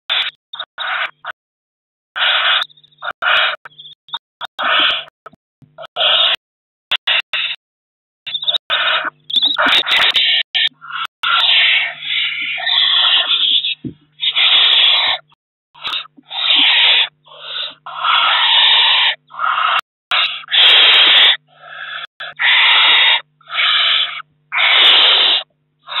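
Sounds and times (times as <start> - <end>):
owl chicks hissing calls: 0.1 - 1.2, 2.2 - 3.6, 4.6 - 5.1, 5.8 - 6.4, 7.0 - 7.6, 8.3 - 26.0.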